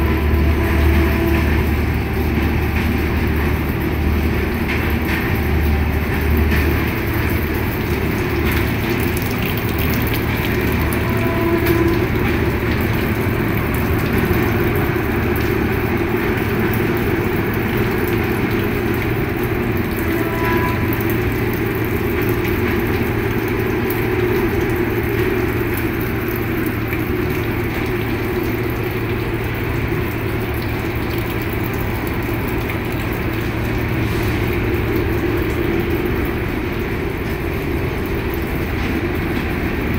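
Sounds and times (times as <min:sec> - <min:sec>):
train equipment humming: 0:00.0 - 0:39.9.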